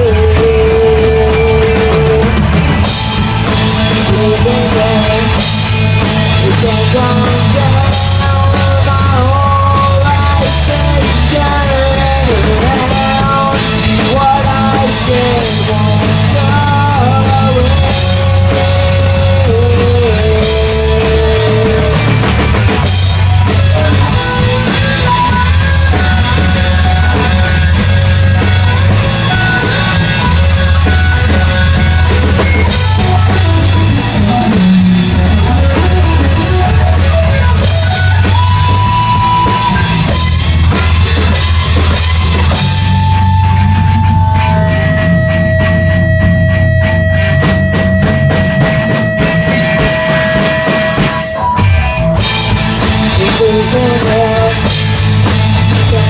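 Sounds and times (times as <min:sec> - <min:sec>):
instrumental rock music: 0:00.0 - 0:56.0.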